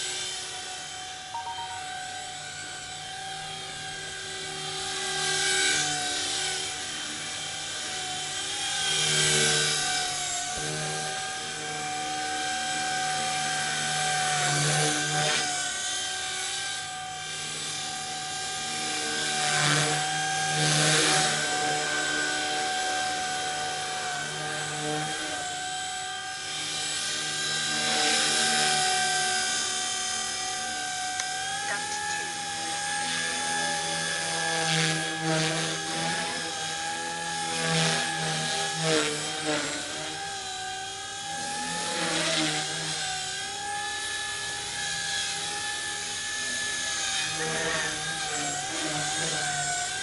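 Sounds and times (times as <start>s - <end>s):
toy helicopter rotor whine: 0.0s - 50.0s.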